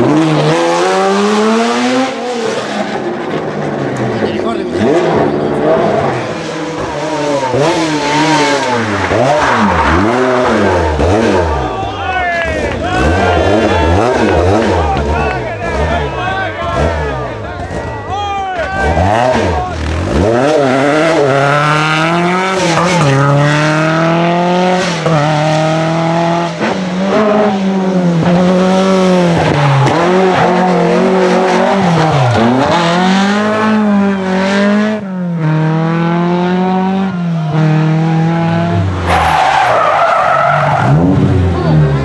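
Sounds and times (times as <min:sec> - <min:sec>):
rally car engine revving: 0:00.0 - 0:42.0.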